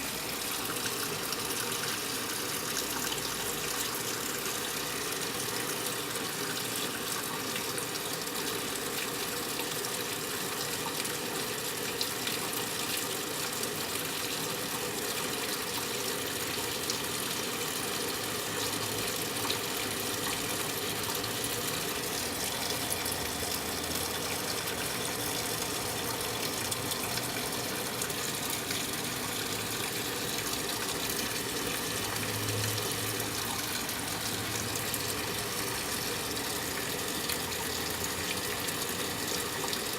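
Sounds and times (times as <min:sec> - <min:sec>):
water pouring into washing machine: 0:00.0 - 0:39.9.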